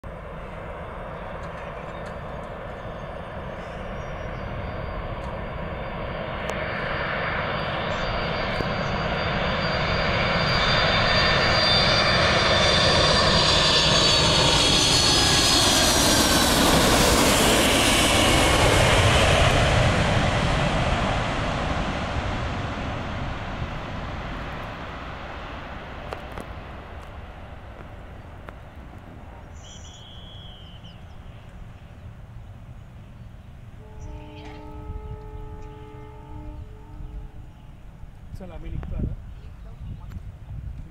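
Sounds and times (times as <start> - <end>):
jet engines passing overhead: 0.0 - 40.9
high whining engine tones: 0.1 - 40.0.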